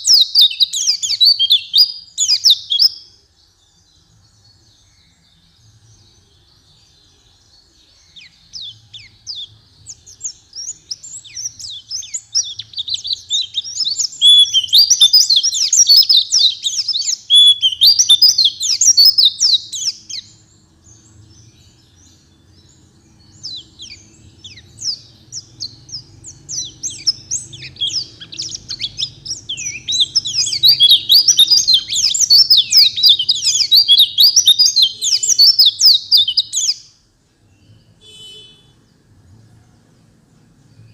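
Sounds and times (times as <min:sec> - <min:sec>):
bird twittering chirps: 0:00.0 - 0:39.1.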